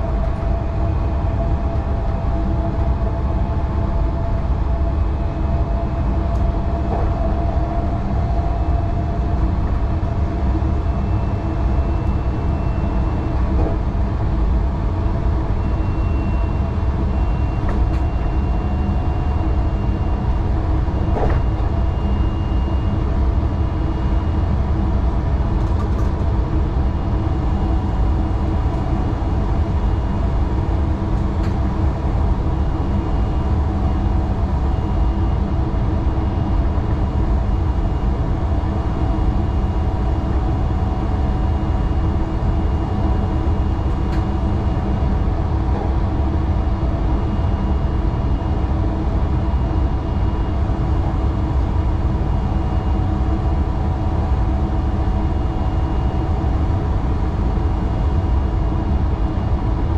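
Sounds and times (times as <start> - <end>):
train running rumble: 0.0 - 50.2
electrical equipment hum: 0.0 - 59.9.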